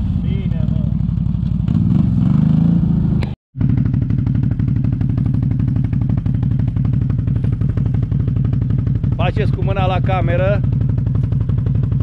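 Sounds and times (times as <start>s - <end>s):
quad engine idling: 0.0s - 1.9s, 3.6s - 12.0s.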